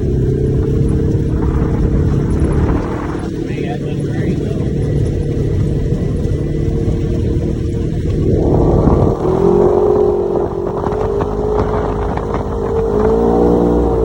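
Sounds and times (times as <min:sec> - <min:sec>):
steady rushing noise: 0:00.0 - 0:14.0
utility vehicle engine running: 0:00.0 - 0:14.0.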